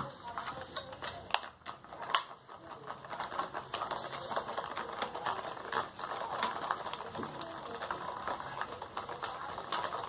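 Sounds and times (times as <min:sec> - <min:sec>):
containers clicking and tapping: 0:00.0 - 0:10.0
rustling: 0:00.0 - 0:10.0.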